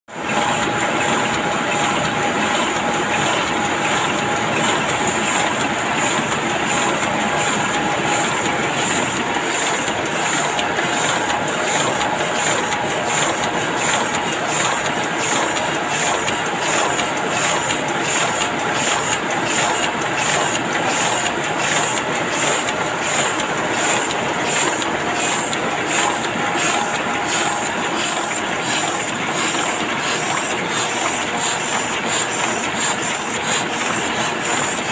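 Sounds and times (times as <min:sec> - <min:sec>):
printing press clattering: 0:00.2 - 0:34.9.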